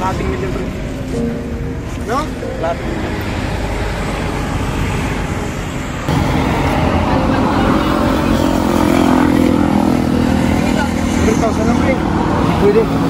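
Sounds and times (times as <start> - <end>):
rumble of passing vehicles: 0.0 - 13.0.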